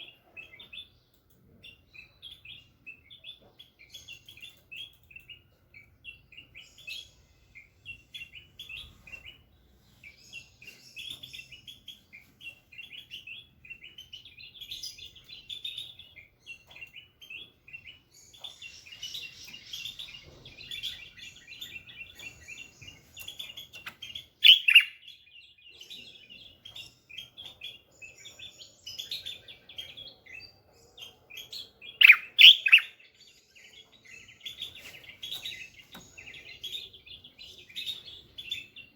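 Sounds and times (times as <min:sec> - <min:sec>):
bulbuls chirping and twittering: 0:00.0 - 0:38.9
loud bird calls: 0:01.6 - 0:38.9.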